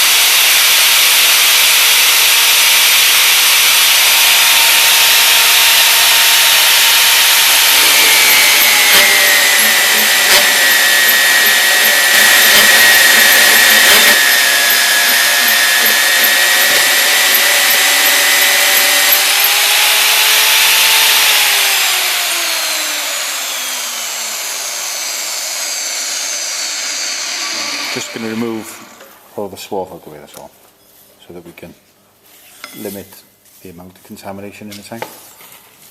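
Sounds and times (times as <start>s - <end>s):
drill grinding metal with whine: 0.0s - 29.2s
drill motor spinning down: 0.0s - 29.2s.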